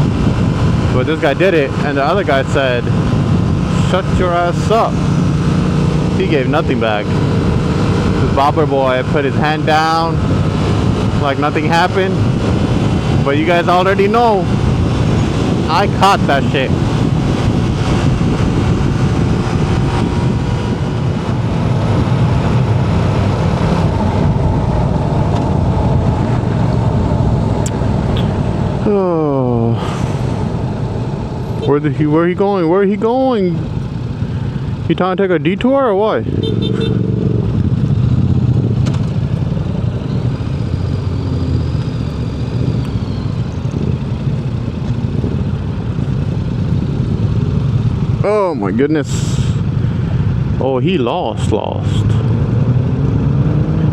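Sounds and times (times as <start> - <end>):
motorcycle engine running: 0.0 - 50.6
wind rushing over microphone: 0.0 - 53.9.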